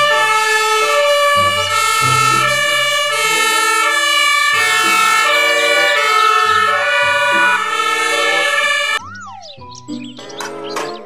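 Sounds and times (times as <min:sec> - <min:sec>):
fire engine siren: 0:00.0 - 0:09.5.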